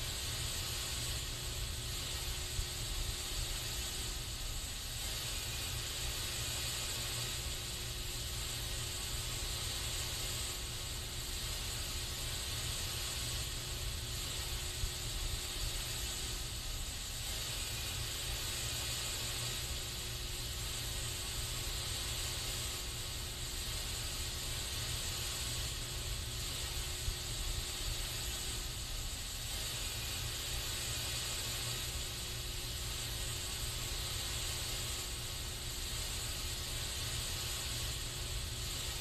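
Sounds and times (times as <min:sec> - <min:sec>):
aerosol spray can hissing: 0:00.0 - 0:39.0.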